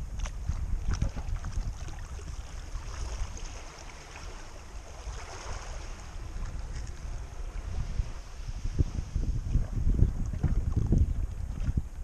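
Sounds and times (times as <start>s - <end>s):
small waves lapping: 0.0s - 11.8s
wind buffeting microphone: 0.0s - 12.0s.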